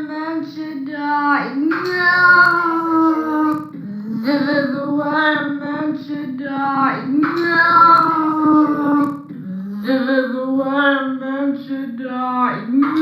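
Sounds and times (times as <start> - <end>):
high voice singing: 1.3 - 11.7, 12.4 - 13.0.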